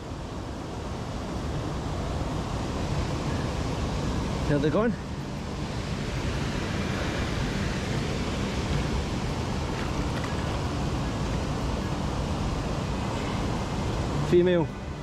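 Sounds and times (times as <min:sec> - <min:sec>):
shallow river flowing: 0:00.0 - 0:15.0.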